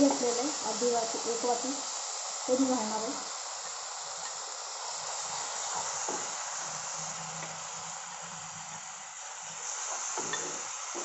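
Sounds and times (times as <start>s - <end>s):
gravy sizzling in hot oil: 0.0s - 11.0s.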